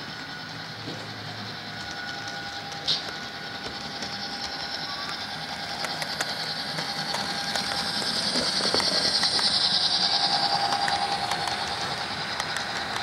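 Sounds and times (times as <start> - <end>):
model train motor whining: 0.0 - 13.0
wheels ticking on rails: 0.8 - 13.0.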